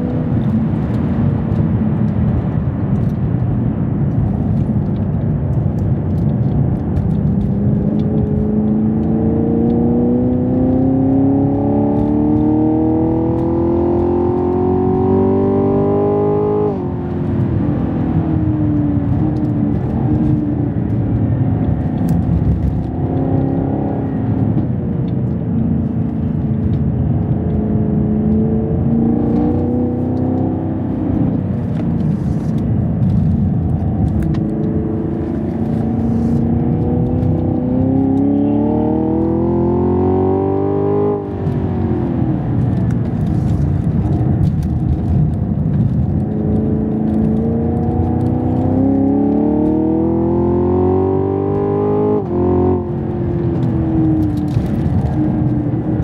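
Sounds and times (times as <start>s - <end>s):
car engine pulling hard: 0.0s - 56.0s.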